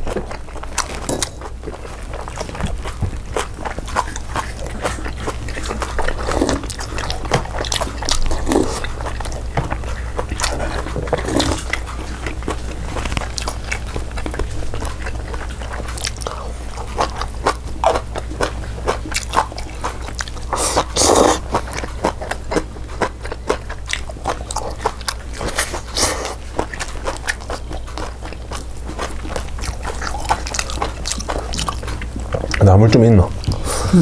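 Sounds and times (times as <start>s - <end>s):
person chewing crunchy food: 0.0s - 34.0s
steady low hum: 0.0s - 34.0s.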